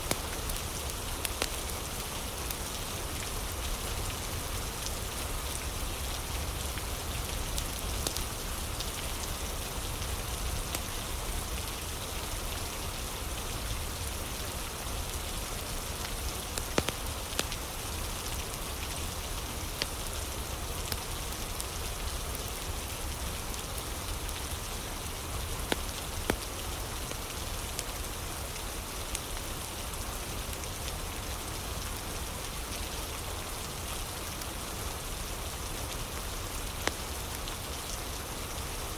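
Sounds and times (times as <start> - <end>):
crackling fire: 0.0 - 38.9
steady rain: 0.0 - 38.9.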